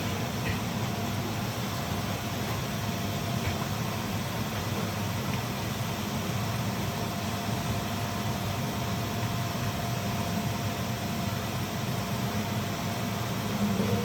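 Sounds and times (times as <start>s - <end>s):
steady mechanical whir with hum: 0.0s - 14.0s.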